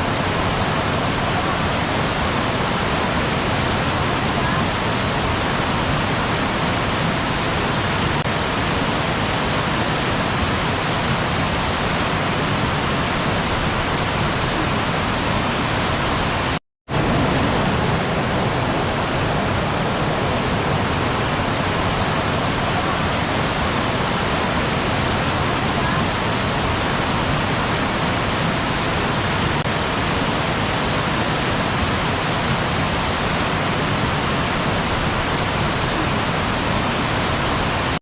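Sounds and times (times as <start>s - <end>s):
waterfall roaring: 0.0s - 38.0s.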